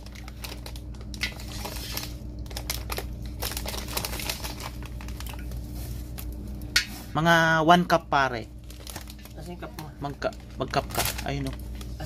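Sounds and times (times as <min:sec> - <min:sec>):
plastic bag crinkling: 0:00.0 - 0:07.0, 0:08.5 - 0:12.0
low steady hum: 0:00.0 - 0:12.0.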